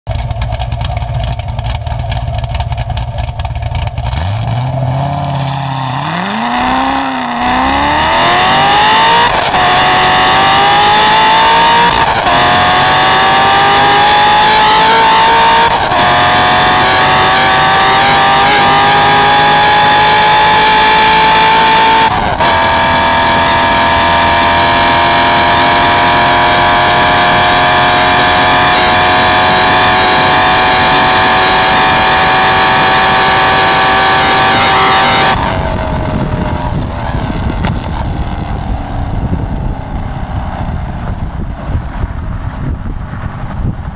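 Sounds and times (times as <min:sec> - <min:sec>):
car engine accelerating: 0:00.1 - 0:43.9.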